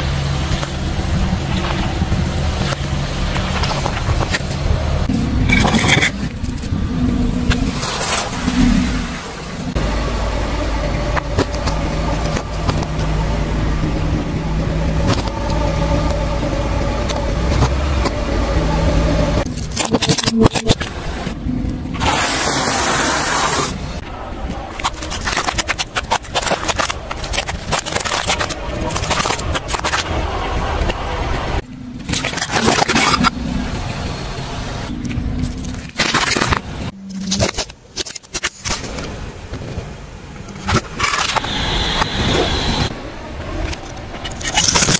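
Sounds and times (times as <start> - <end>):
car engine running low: 0.0 - 37.0.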